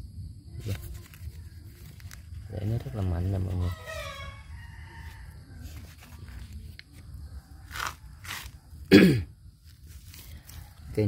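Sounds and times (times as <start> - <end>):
hand rustling potting soil: 0.6 - 8.6, 9.6 - 11.0.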